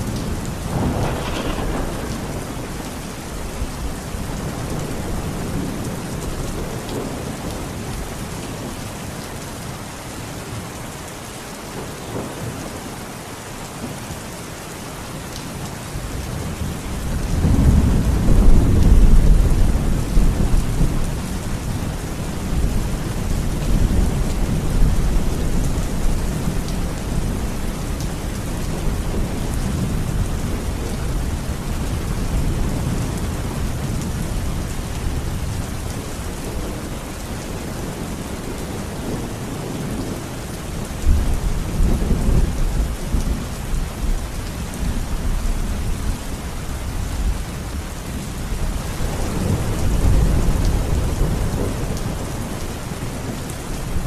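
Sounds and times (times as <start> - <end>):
low thunder rumbling: 0.0 - 8.0, 16.2 - 54.0
heavy rain falling: 0.0 - 54.0.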